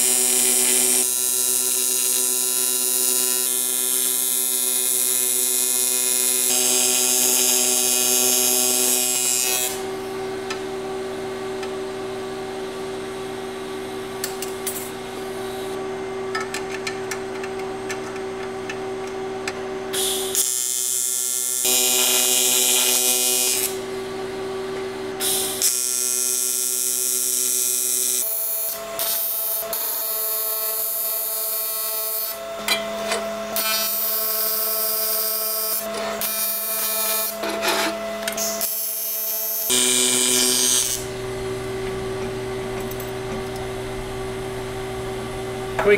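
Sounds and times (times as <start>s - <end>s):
welding arc buzzing and hissing: 0.0s - 15.8s, 19.9s - 32.5s, 33.4s - 42.2s.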